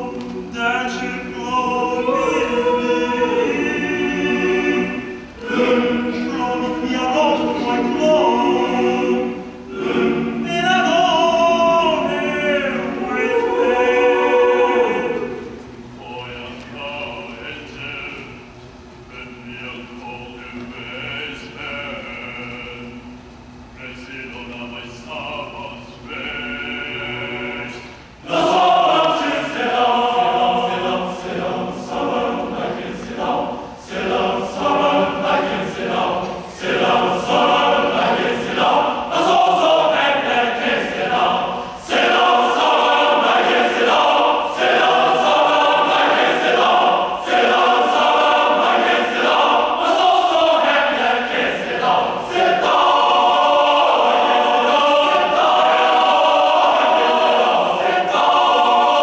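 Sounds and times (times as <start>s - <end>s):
men's choir singing gospel: 0.0s - 18.4s, 23.8s - 59.0s.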